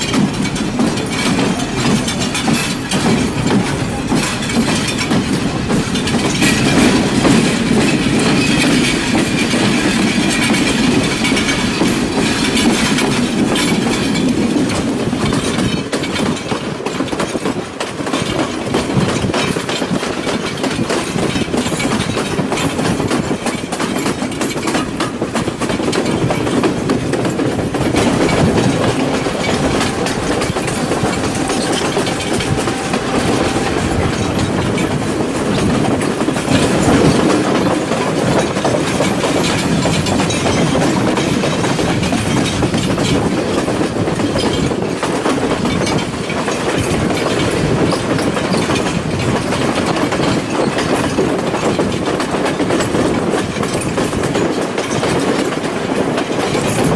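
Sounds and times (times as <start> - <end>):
train rumble: 0.0 - 50.9
wheels clickety-clack over rails: 0.0 - 56.9.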